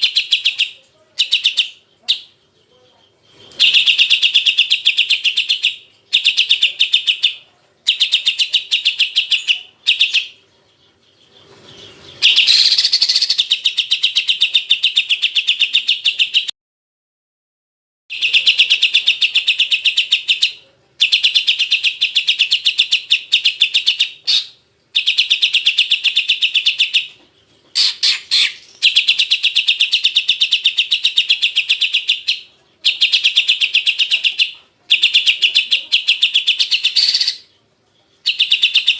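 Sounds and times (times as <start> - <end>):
bird trilling song: 0.0 - 16.5, 18.1 - 37.6, 38.2 - 38.9.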